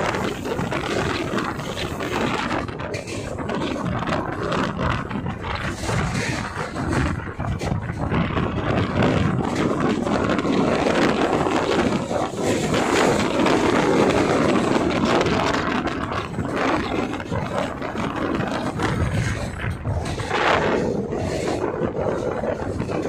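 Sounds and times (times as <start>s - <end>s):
coaches rumbling on track: 0.0s - 23.0s
train rushing at speed: 0.0s - 23.0s
wind buffeting microphone: 0.0s - 23.0s.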